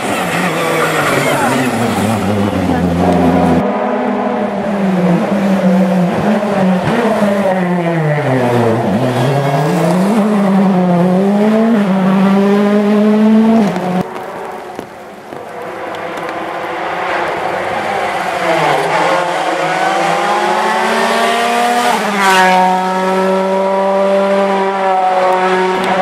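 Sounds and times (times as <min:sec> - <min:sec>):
rally car engine revving: 0:00.0 - 0:14.3, 0:15.5 - 0:26.0.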